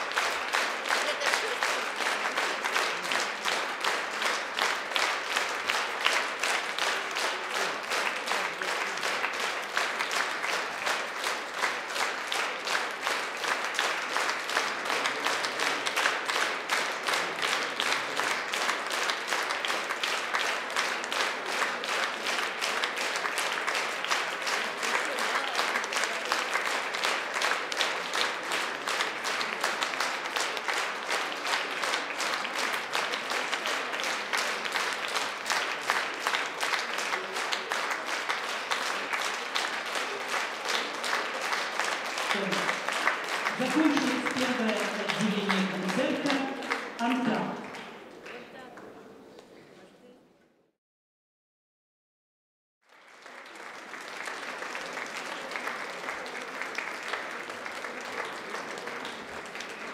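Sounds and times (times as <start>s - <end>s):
audience applauding: 0.0s - 48.9s, 52.8s - 59.9s.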